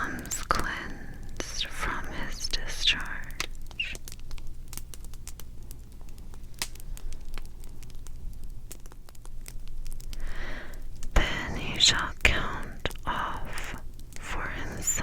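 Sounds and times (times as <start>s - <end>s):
fire crackling and popping: 0.0s - 15.0s
steady low hum: 0.0s - 15.0s.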